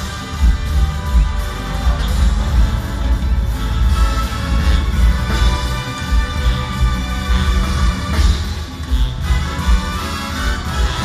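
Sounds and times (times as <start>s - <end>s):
brass band music with drums: 0.0s - 11.0s.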